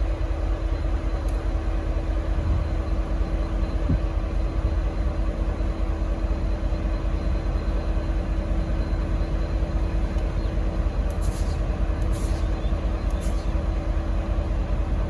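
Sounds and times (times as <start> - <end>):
diesel locomotive rumble: 0.0 - 15.0
locomotive hum: 0.0 - 15.0.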